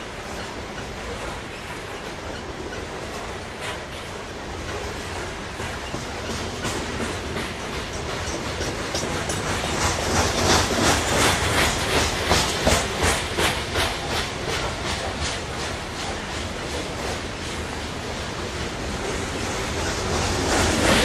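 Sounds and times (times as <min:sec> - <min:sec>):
freight train rumble: 0:00.0 - 0:21.0
train wheels clicking over rail joints: 0:00.0 - 0:21.0.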